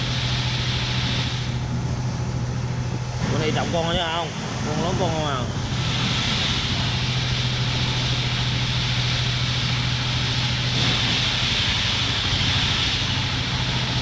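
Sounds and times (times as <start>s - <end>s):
constant hiss: 0.0s - 14.0s
engine running steadily: 0.0s - 14.0s.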